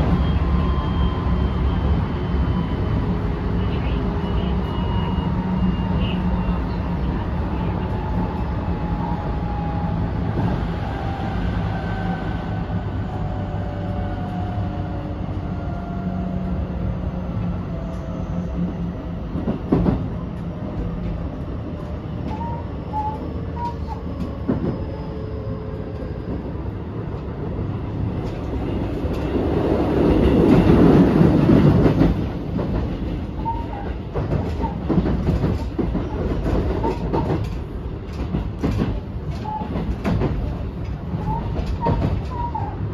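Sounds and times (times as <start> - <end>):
loud rail rumble: 0.0 - 42.9
rail and wheel noise: 0.0 - 42.9.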